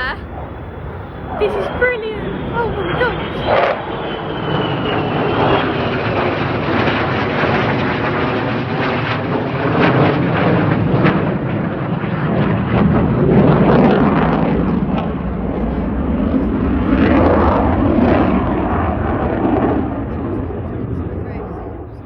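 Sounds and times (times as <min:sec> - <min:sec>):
fighter jet engines overhead: 0:00.0 - 0:22.0.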